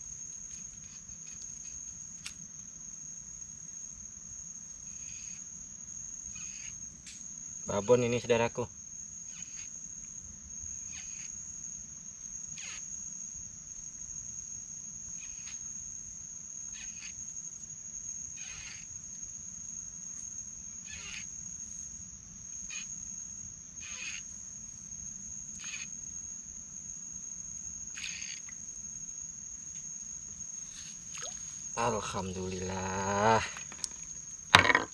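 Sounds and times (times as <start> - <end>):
insect chirps: 0.0 - 34.9
insects droning: 0.0 - 34.9.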